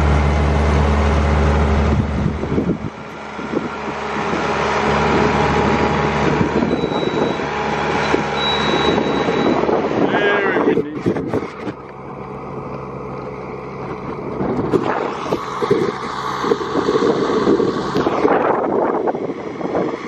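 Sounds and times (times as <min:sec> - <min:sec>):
tractor diesel engine passing: 0:00.0 - 0:20.0.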